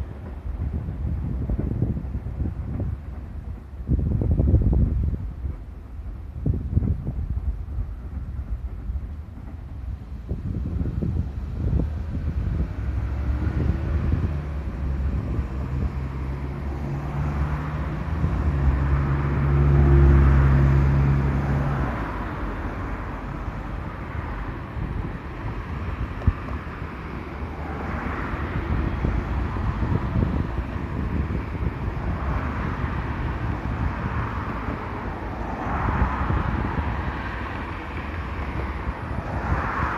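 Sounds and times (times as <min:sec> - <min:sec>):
outdoor noise: 0:00.0 - 0:39.9
train passing with rumble: 0:00.0 - 0:39.9.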